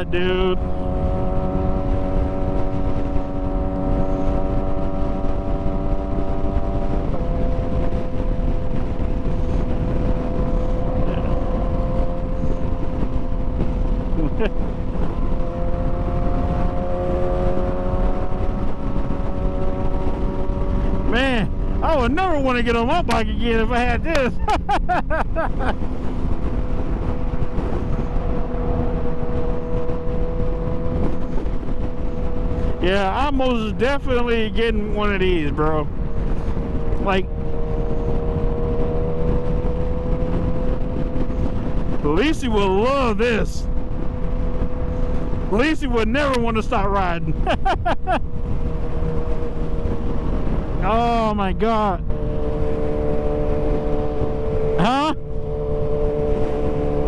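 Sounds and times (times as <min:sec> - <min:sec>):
motorcycle engine cruising: 0:00.0 - 0:57.0
wind noise on microphone: 0:00.0 - 0:57.0.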